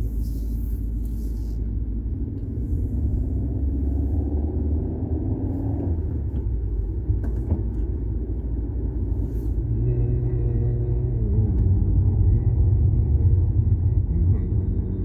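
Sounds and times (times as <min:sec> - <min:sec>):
car engine rumbling: 0:00.0 - 0:15.0
droning hum: 0:00.0 - 0:15.0.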